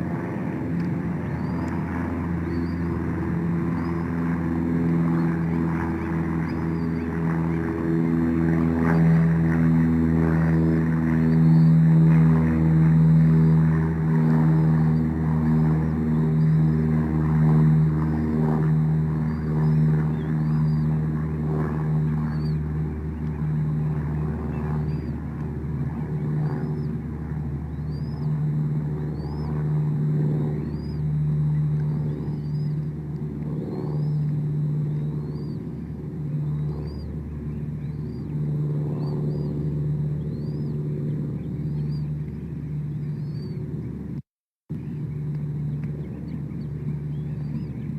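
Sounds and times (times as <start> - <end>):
low engine drone: 0.0 - 47.9.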